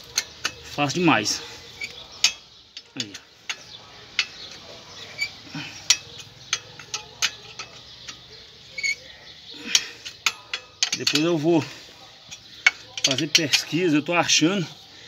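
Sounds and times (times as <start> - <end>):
wrench clinking on metal nuts: 0.0 - 14.4.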